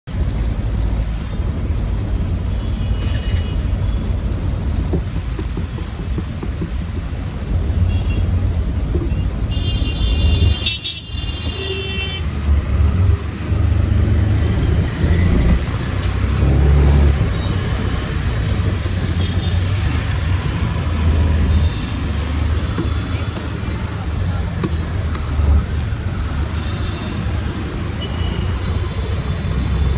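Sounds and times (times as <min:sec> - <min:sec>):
traffic rumble: 0:00.0 - 0:29.9.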